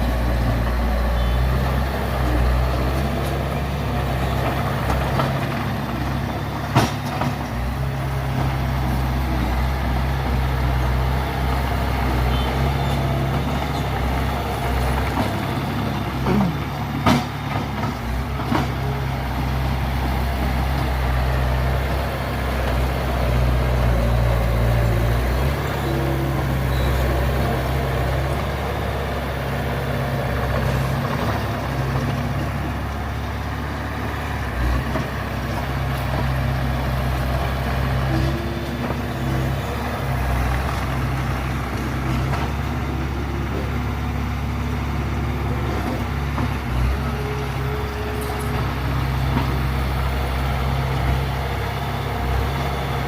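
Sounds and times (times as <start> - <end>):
heavy machinery diesel engines: 0.0 - 53.0.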